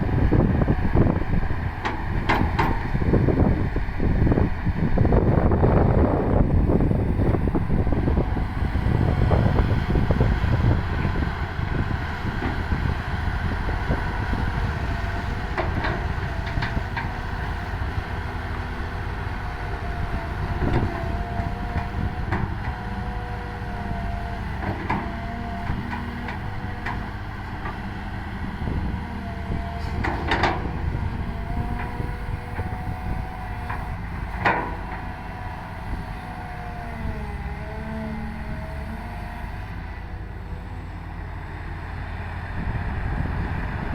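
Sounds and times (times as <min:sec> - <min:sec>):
excavator diesel engine rumbling: 0:00.0 - 0:43.9.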